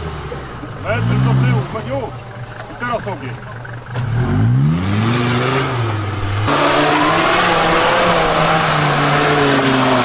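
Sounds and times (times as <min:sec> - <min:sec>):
diesel engine revving: 0:00.0 - 0:10.0.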